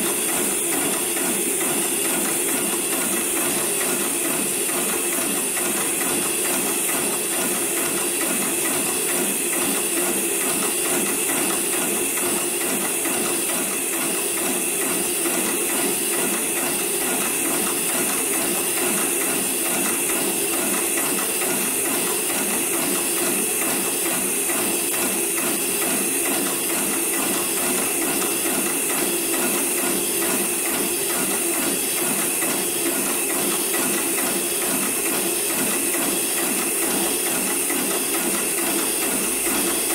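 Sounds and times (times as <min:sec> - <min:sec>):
sewing machine stitching: 0:00.0 - 0:39.9.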